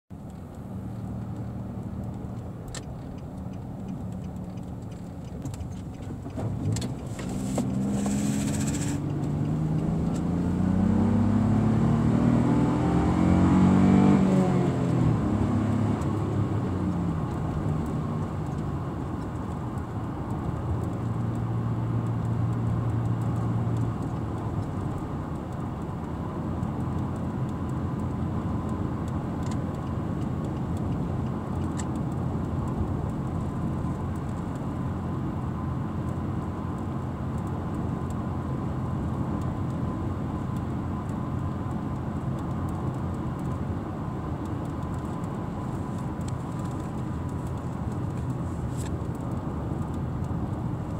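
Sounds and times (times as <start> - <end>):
pickup truck engine and exhaust: 0.1 - 50.9.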